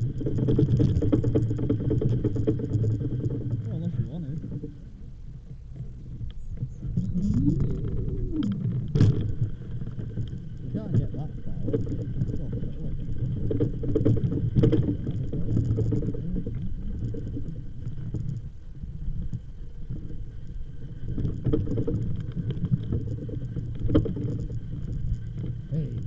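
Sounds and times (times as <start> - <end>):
faint clicks: 0.0 - 26.0
wind rumbling on microphone: 0.0 - 26.0.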